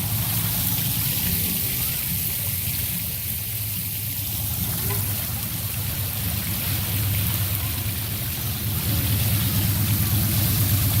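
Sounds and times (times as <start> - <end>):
fountain jet splashing into pond: 0.0 - 11.0.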